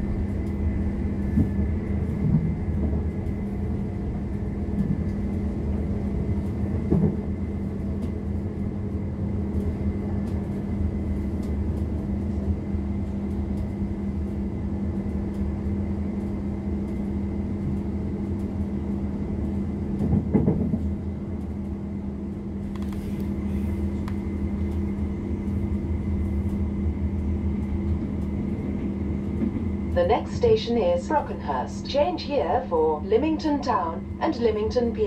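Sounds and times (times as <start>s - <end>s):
steady train hum: 0.0s - 35.0s
train wheels rumbling on track: 0.0s - 35.0s.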